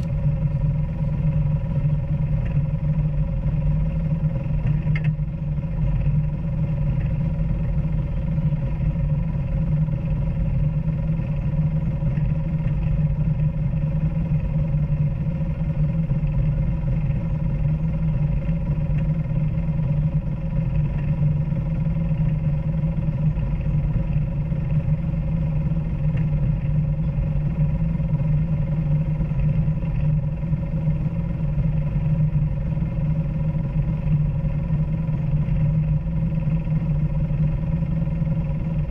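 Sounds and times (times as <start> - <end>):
off-road vehicle engine droning: 0.0 - 38.9.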